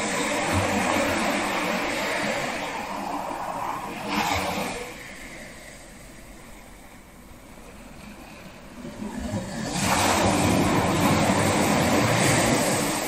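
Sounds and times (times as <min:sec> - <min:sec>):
ocean wave breaking on shore: 0:00.0 - 0:13.0.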